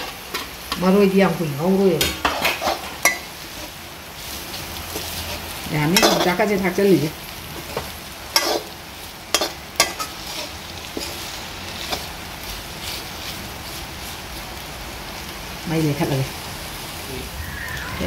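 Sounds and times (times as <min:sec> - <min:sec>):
food sizzling in a wok: 0:00.0 - 0:18.0.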